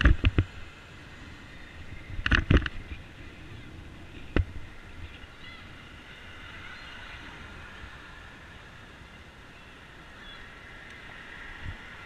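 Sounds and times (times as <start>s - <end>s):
street traffic rush: 0.0s - 12.0s.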